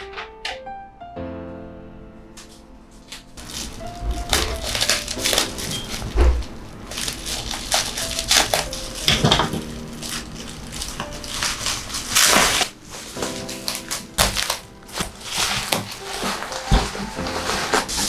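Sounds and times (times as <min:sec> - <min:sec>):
packaging rustling and scraping: 0:03.1 - 0:18.0.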